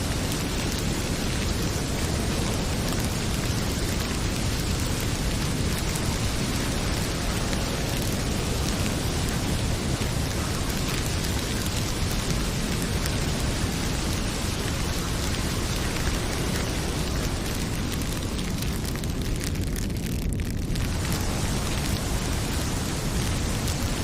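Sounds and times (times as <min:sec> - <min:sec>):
heavy rain pouring: 0:00.0 - 0:24.0
wood fire crackling: 0:00.0 - 0:24.0.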